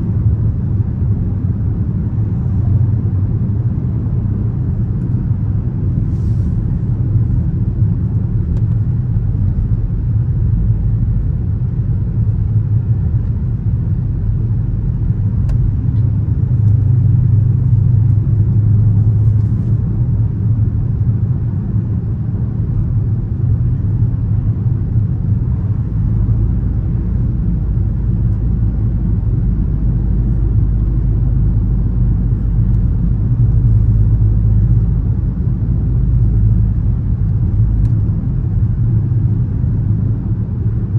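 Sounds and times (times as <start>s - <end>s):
car engine droning: 0.0s - 40.9s
road rumble: 0.0s - 40.9s.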